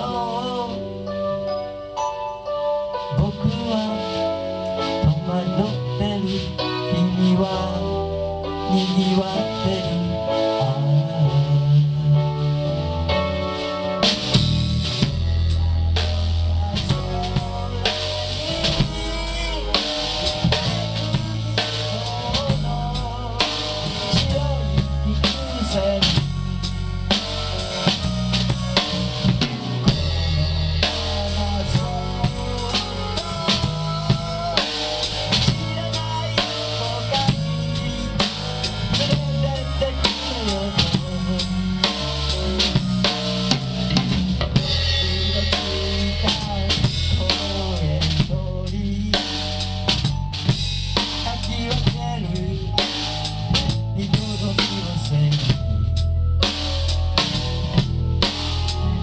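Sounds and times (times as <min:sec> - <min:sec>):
bass line: 0:00.0 - 0:59.0
melodic lead line: 0:00.0 - 0:59.0
drum kit beat: 0:02.2 - 0:59.0.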